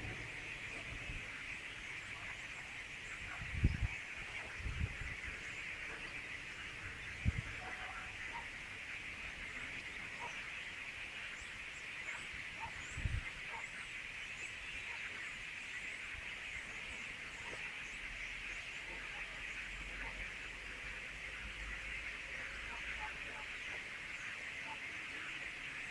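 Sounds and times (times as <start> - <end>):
starlings chattering: 0.0 - 25.9.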